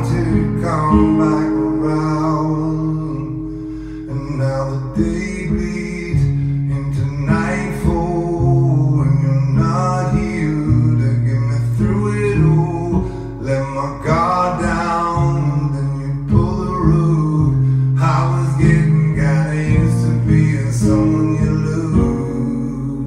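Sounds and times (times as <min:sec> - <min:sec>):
acoustic guitar strummed: 0:00.0 - 0:23.0.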